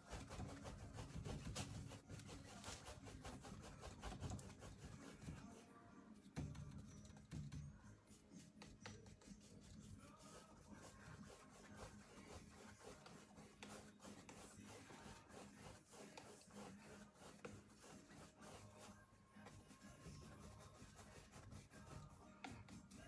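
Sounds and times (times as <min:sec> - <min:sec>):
paintbrush scrubbing strokes: 0:00.0 - 0:05.7, 0:08.1 - 0:23.0.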